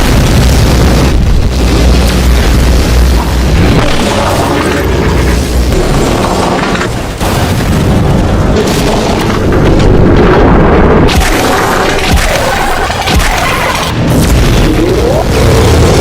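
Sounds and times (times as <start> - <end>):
booming explosions with heavy rumble: 0.0 - 16.0.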